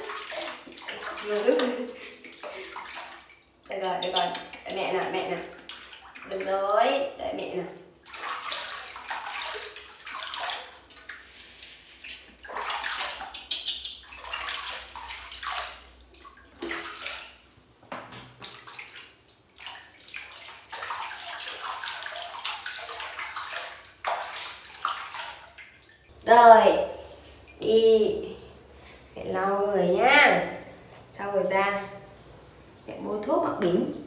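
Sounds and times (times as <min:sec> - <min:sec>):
water splashing in a steel basin: 0:00.0 - 0:06.9, 0:08.0 - 0:28.7.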